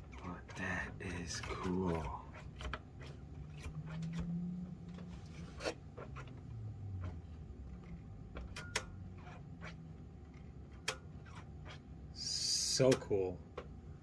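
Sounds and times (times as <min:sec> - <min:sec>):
plastic toy clicks and rubbing: 0:00.0 - 0:11.9.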